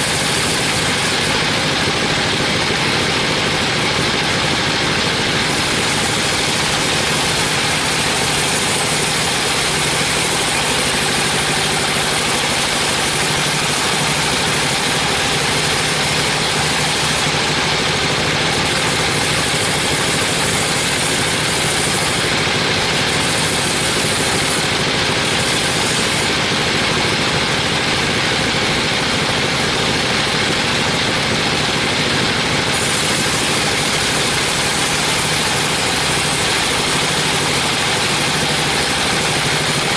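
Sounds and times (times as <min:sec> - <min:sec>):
bandsaw sawing wood: 0:00.0 - 0:39.9
blade hissing in the cut: 0:00.0 - 0:39.9.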